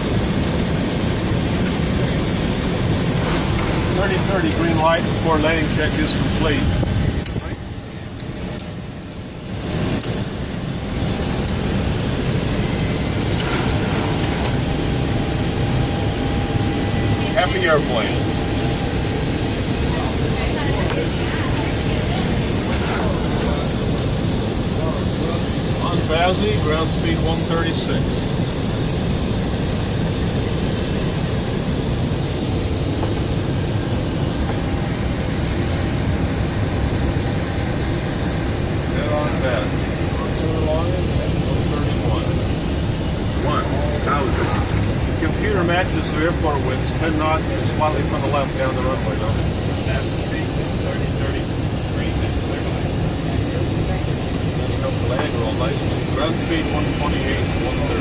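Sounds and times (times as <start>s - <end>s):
jet engines: 0.0s - 58.0s
rushing airflow: 0.0s - 58.0s.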